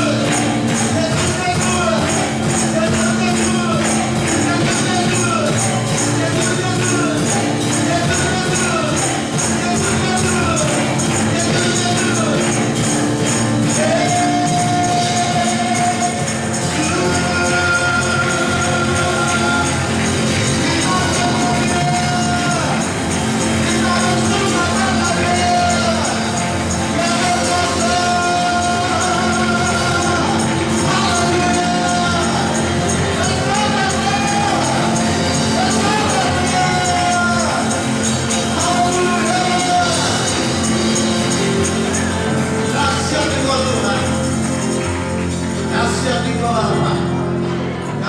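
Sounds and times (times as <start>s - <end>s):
high ticking beat: 0.0s - 45.7s
drum kit: 0.0s - 47.9s
electric bass: 0.0s - 48.0s
jingling percussion: 0.0s - 48.0s
keyboard: 0.0s - 48.0s
person singing: 0.0s - 48.0s
worship band music: 0.0s - 48.0s.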